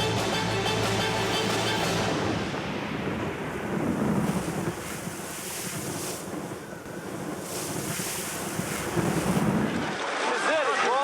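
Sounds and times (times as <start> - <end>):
rushing rumbling noise: 0.0 - 10.0.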